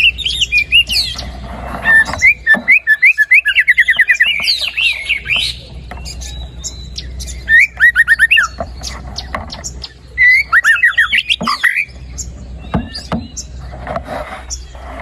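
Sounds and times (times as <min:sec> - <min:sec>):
bird singing whistled notes: 0:00.0 - 0:13.7
quiet bird chirps: 0:00.0 - 0:15.0.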